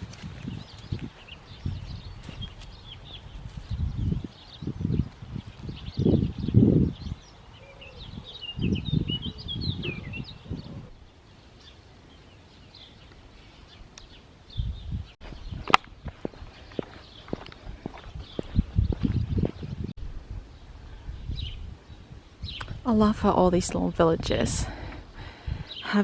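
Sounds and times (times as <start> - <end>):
wind rumble on microphone: 0.0 - 11.1, 13.7 - 25.8
small birds chirping: 0.1 - 19.9, 20.5 - 26.0.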